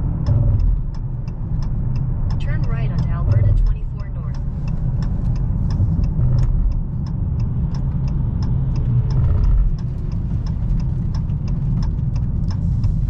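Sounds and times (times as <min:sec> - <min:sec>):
car engine and tyres droning: 0:00.0 - 0:13.0
light regular ticking: 0:00.0 - 0:13.0.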